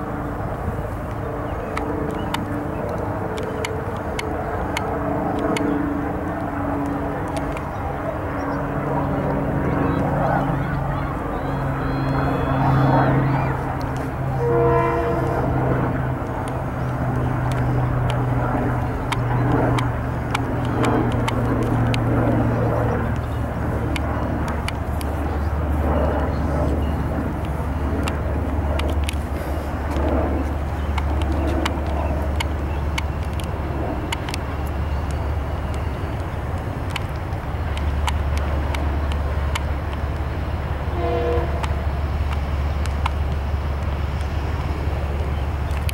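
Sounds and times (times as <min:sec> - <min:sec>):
distant helicopter drone: 0:00.0 - 0:45.9.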